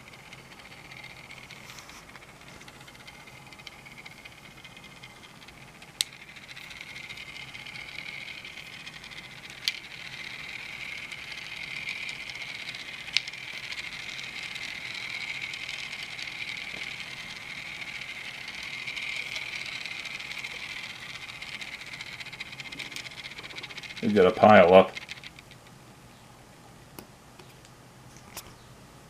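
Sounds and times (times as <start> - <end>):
toy train motors whirring: 0.0 - 25.7.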